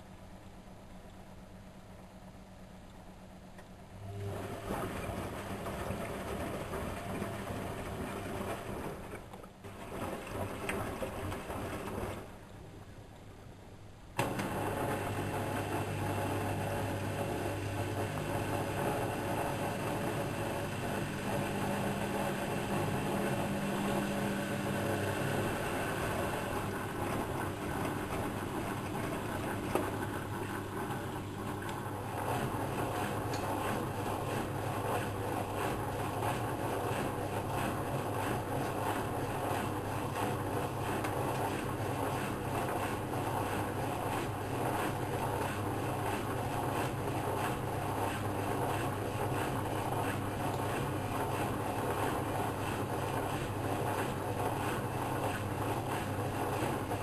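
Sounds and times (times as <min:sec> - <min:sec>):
washing machine motor humming: 0:03.5 - 0:12.9, 0:14.1 - 0:57.0
laundry and water sloshing: 0:04.3 - 0:12.5, 0:14.2 - 0:57.0.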